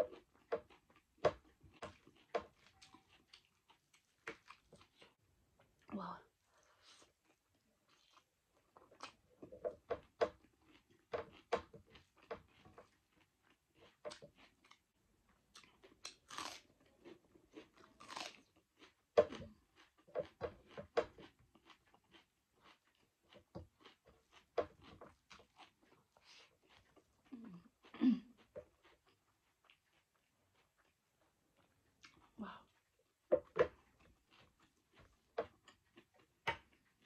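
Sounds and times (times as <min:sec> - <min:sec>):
chewing and crunching food: 0:00.0 - 0:37.0.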